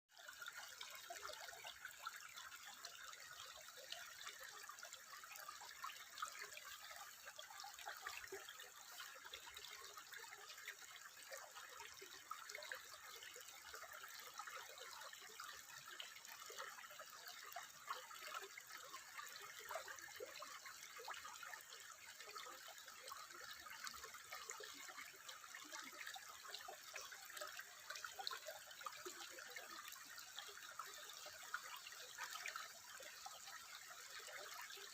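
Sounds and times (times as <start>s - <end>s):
water trickling: 0.2s - 34.9s.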